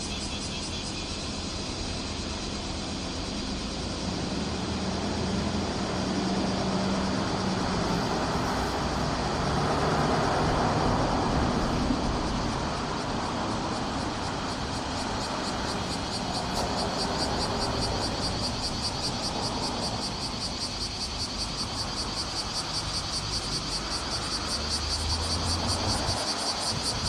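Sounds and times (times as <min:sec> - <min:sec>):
cicadas chorus: 0:00.0 - 0:27.0.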